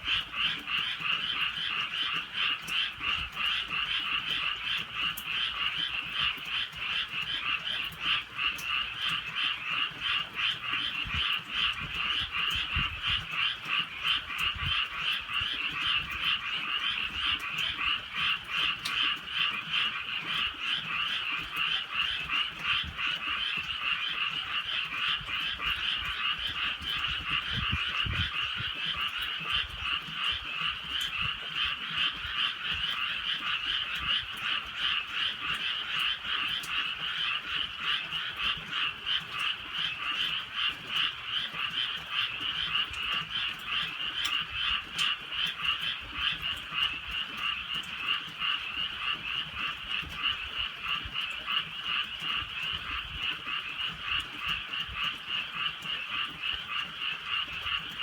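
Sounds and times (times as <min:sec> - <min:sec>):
chorus of frogs croaking: 0:00.0 - 0:58.0
light drizzle falling: 0:00.0 - 0:58.0.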